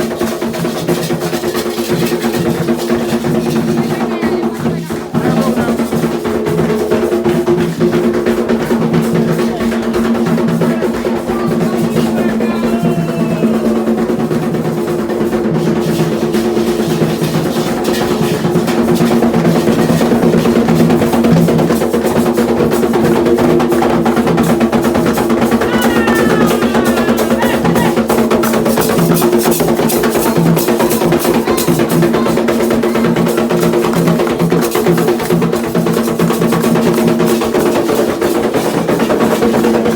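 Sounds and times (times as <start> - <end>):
hand drums rhythm: 0.0 - 39.9.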